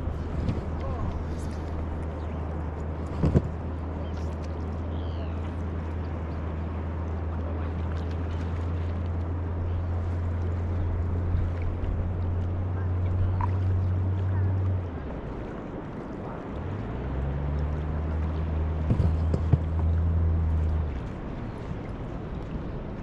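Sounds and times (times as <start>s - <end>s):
low motor drone: 0.0s - 23.0s.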